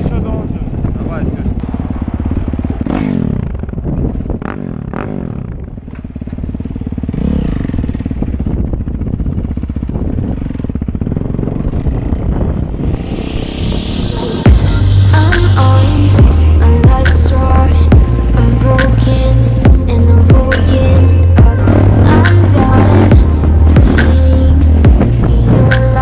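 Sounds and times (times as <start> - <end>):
dirt bike engine running: 0.0 - 13.1, 14.5 - 26.0.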